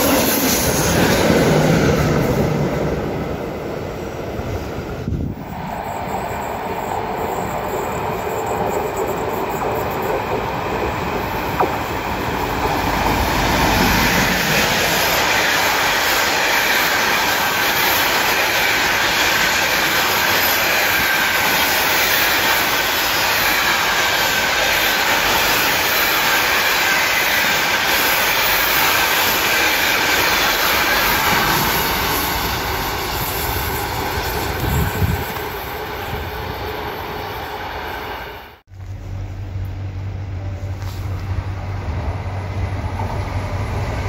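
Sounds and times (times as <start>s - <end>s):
freight train wheels on rails: 0.0s - 44.0s.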